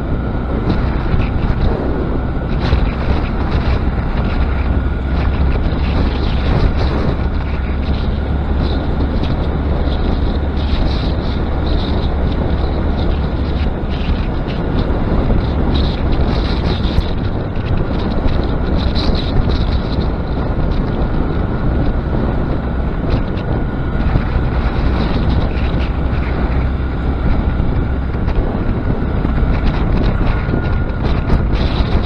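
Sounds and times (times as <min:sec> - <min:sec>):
motorcycle engine droning: 0:00.0 - 0:32.0
wind buffeting microphone: 0:00.0 - 0:32.0.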